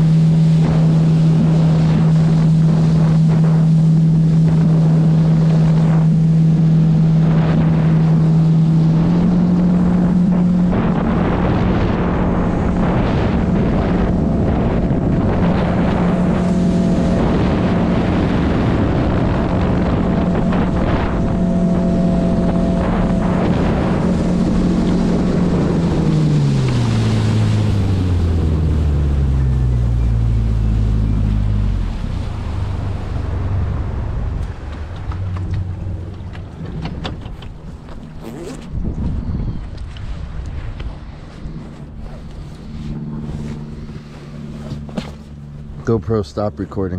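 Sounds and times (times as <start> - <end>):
wind on microphone: 0.0 - 46.0
outboard motor running: 0.0 - 46.9
water rushing along hull: 0.0 - 46.9.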